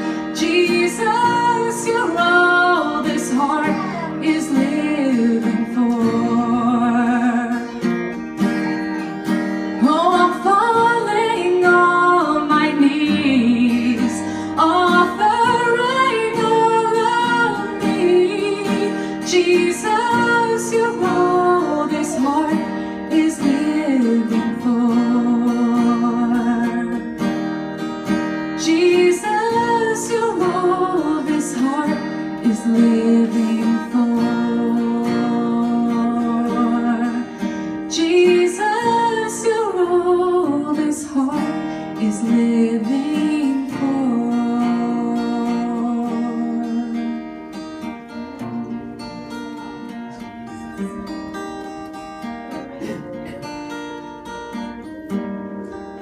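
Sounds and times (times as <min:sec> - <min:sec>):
woman singing: 0:00.0 - 0:27.3, 0:28.4 - 0:50.0
acoustic guitar strumming: 0:00.0 - 0:56.0.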